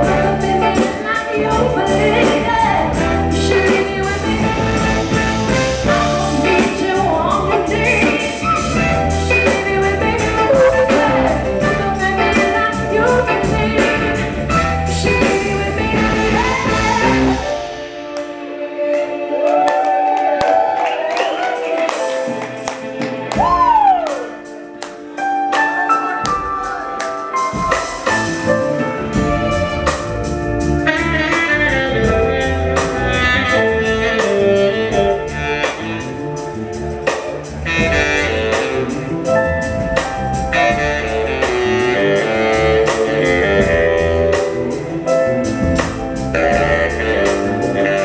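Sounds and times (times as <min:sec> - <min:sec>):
live soul band instrumental: 0:00.0 - 0:48.0.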